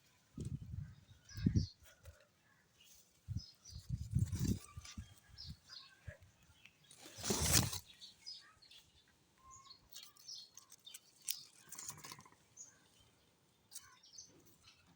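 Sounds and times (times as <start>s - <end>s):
bird chirps: 2.9s - 14.9s.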